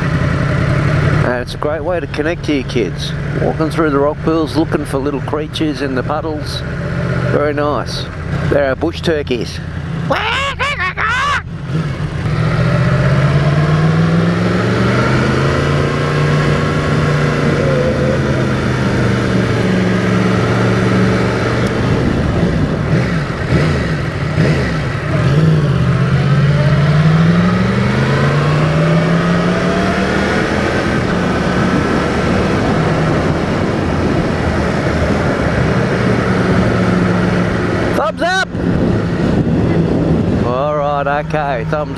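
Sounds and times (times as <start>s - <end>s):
motorcycle engine at road speed: 0.0s - 10.1s, 11.4s - 41.9s.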